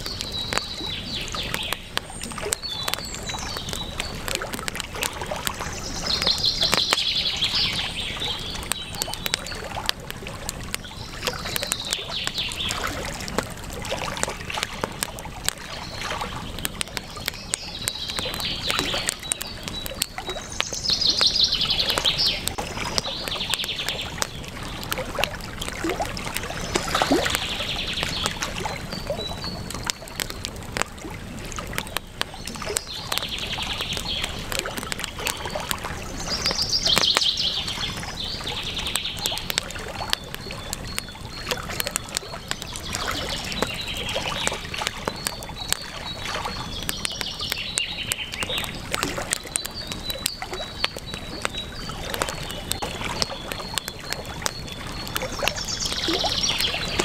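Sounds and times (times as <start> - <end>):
birds chirping: 0.0 - 57.0
campfire crackling and popping: 0.0 - 57.0.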